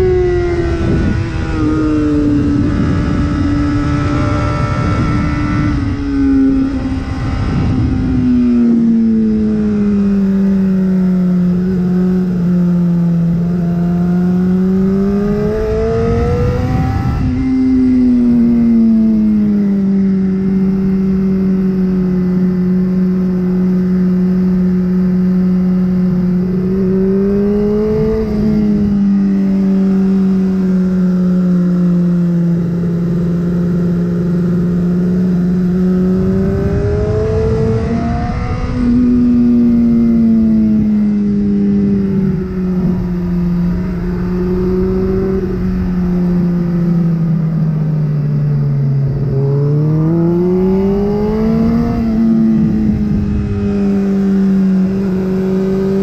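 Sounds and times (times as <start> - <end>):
motorcycle engine revving under load: 0.0 - 56.0
rushing wind: 0.0 - 56.0.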